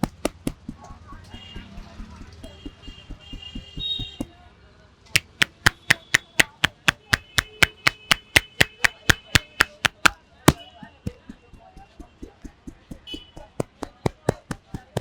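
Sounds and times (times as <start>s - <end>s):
hands slapping a head: 0.0s - 4.3s, 5.2s - 15.0s.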